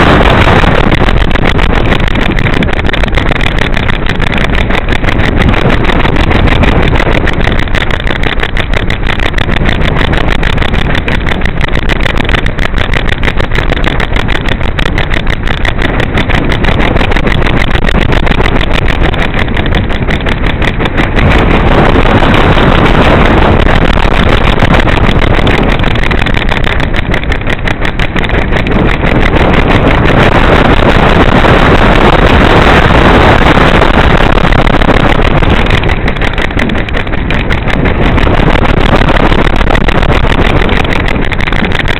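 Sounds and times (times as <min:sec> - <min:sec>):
wind rushing over camera: 0:00.0 - 0:41.9.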